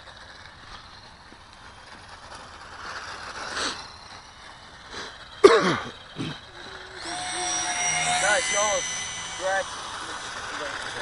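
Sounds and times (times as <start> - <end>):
model plane electric motor whirr: 0.0 - 11.0.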